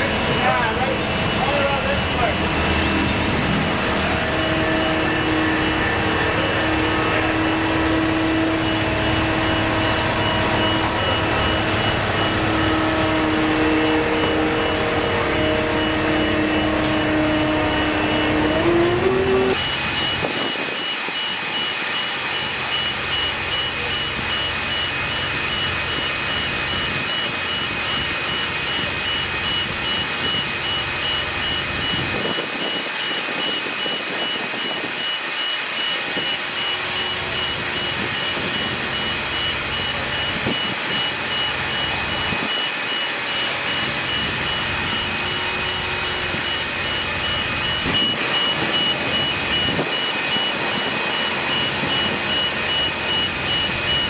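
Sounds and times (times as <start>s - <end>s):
heavy vehicle engine running: 0.0s - 54.0s
reversing alarm beeping: 0.0s - 54.0s.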